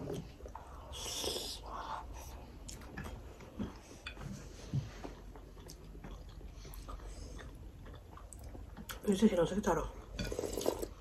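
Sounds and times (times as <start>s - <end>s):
people chewing: 0.0s - 9.3s, 10.0s - 11.0s.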